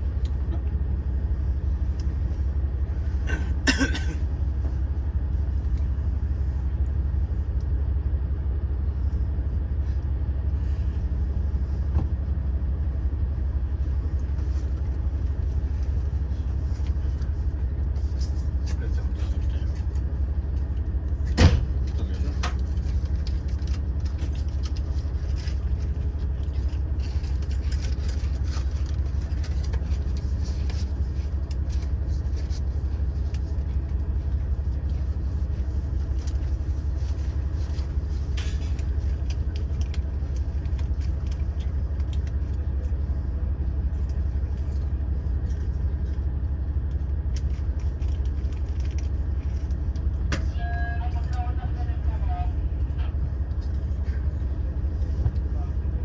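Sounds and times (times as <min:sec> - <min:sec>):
diesel engine idling rumble: 0:00.0 - 0:56.0.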